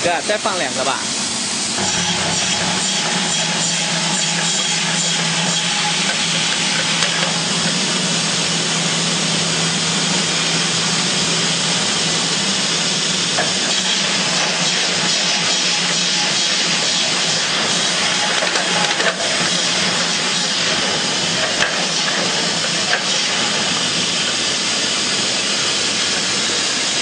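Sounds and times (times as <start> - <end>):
bottle filling machine hissing: 0.0 - 27.0.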